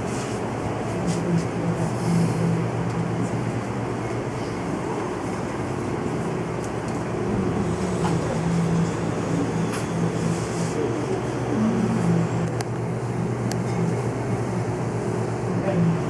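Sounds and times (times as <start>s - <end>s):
low background hum and rumble: 0.0s - 16.0s.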